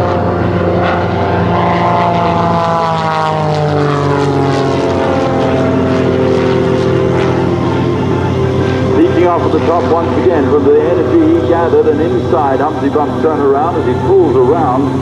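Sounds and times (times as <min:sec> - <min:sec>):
biplane engine and propeller: 0:00.0 - 0:15.0.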